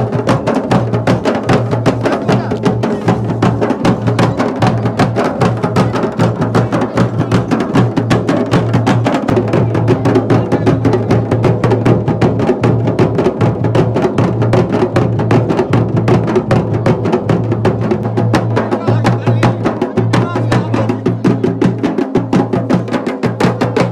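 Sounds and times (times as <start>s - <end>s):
fast drumming: 0.0s - 23.9s.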